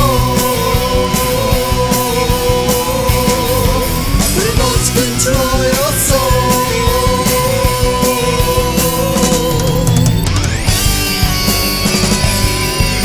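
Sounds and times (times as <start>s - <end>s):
held lead guitar note bending: 0.0s - 13.0s
steady drum beat: 0.0s - 13.0s.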